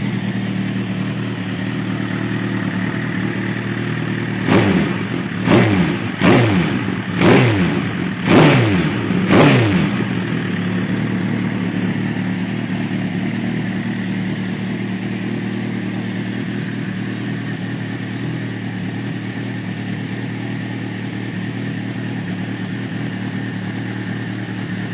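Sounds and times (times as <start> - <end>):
motorcycle engine revving and idling: 0.0 - 24.9.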